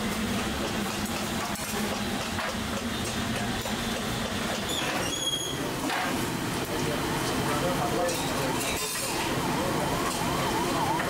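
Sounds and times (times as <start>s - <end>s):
steamers venting steam: 0.0s - 11.0s.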